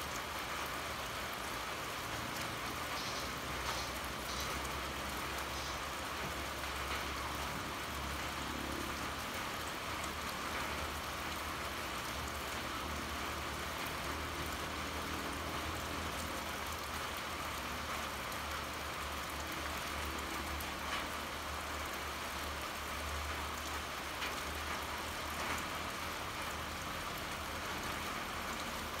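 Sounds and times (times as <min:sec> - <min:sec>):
pouring rain: 0:00.0 - 0:29.0.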